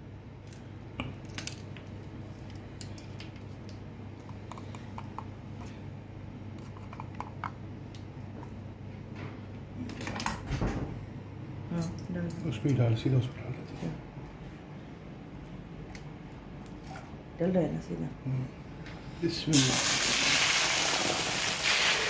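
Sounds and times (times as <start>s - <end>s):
steady low hum: 0.0s - 19.5s.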